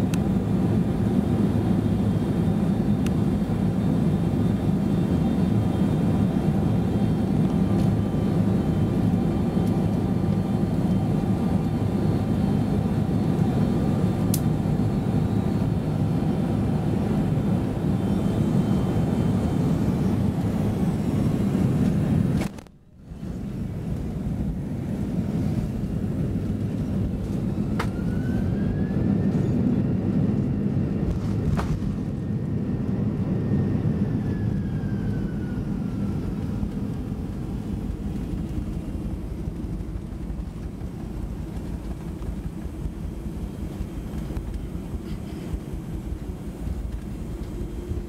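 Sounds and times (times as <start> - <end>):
aircraft cabin rumble: 0.0 - 48.0
jet engine whine: 0.0 - 48.0.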